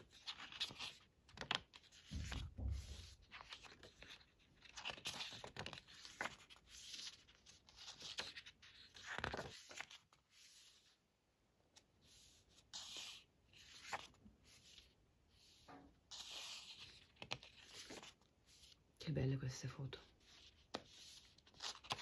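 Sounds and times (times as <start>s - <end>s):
book pages turning: 0.0s - 11.0s, 11.7s - 18.8s, 20.1s - 22.0s.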